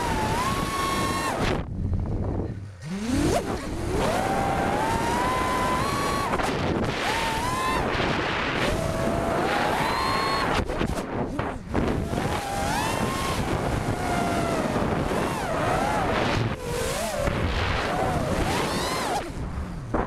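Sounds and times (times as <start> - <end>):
drone motors whining: 0.0 - 20.0
wind rush on microphone: 0.0 - 20.0.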